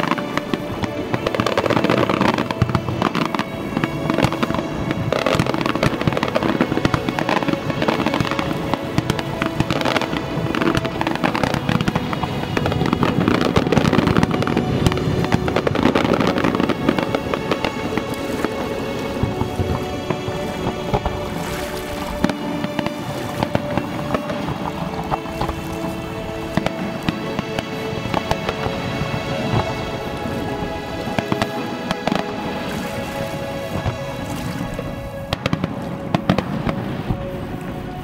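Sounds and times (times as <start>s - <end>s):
fireworks bangs and crackling: 0.0s - 38.0s
music playing: 0.0s - 38.0s.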